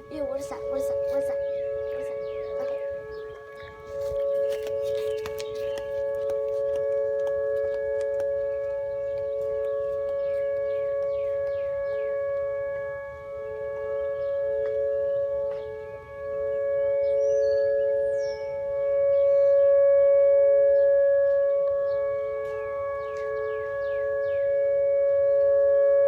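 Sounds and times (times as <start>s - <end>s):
steady two-note warning siren: 0.0s - 26.0s.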